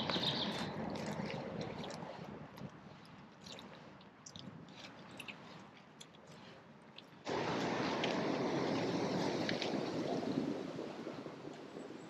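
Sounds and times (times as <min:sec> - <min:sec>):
footsteps on muddy path: 0:00.0 - 0:09.9.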